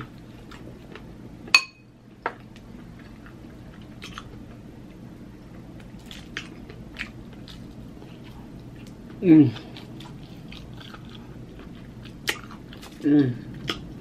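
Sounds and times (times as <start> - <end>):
person chewing food: 0.0 - 1.2, 2.3 - 4.6, 5.4 - 14.0
steady low hum: 0.0 - 14.0.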